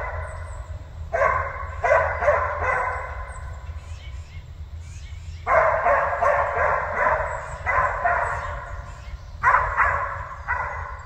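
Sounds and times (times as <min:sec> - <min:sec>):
hunting dogs baying: 0:00.0 - 0:03.9, 0:05.4 - 0:11.0.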